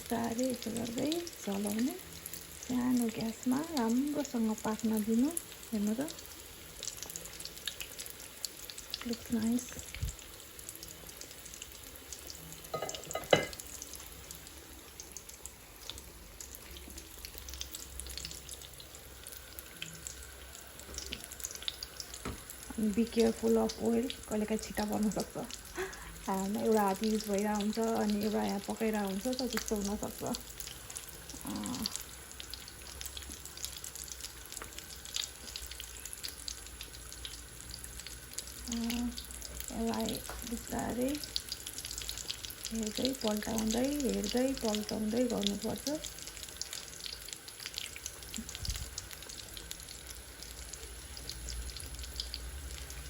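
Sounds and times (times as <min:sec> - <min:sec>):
food deep-frying in oil: 0:00.0 - 0:53.0.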